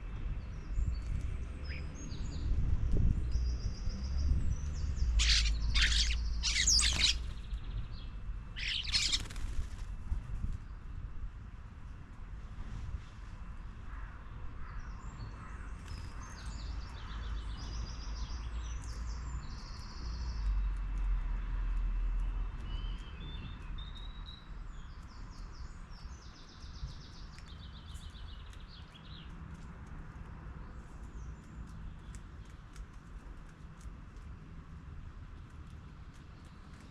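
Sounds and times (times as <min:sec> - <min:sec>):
songbirds singing: 0:00.0 - 0:09.7, 0:14.4 - 0:34.4.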